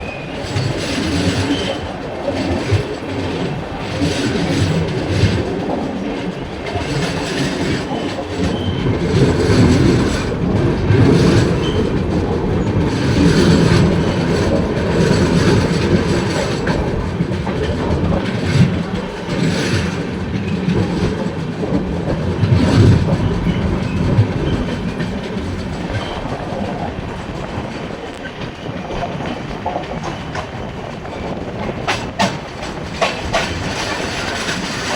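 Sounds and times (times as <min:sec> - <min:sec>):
train rumbling: 0:00.0 - 0:34.9
wheels clacking over rail joints: 0:00.0 - 0:34.9.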